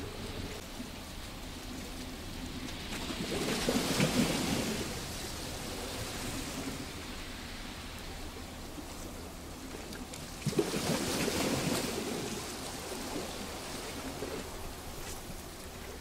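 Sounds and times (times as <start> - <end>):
waves washing onto rocks: 0.0 - 16.0.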